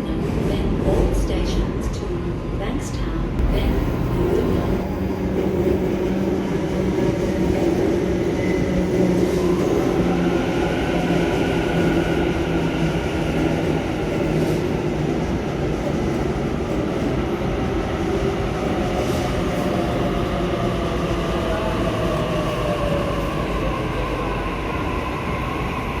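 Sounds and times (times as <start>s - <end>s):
electric train rumble and hum: 0.0s - 26.0s.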